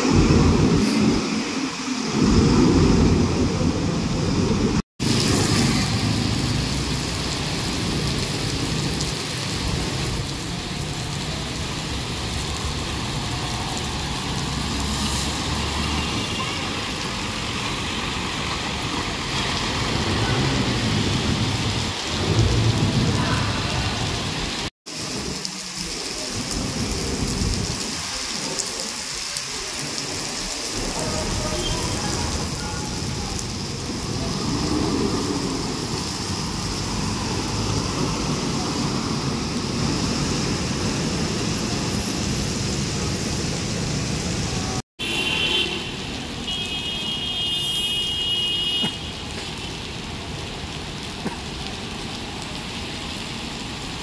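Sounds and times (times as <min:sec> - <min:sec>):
steady rain falling: 0:00.0 - 0:54.0
traffic passing on wet road: 0:00.0 - 0:54.0.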